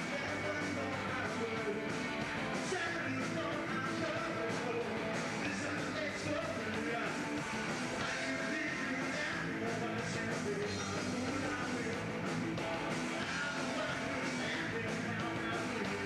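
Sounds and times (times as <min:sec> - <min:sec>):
drums keeping a steady beat: 0:00.0 - 0:16.0
electric guitar: 0:00.0 - 0:16.0.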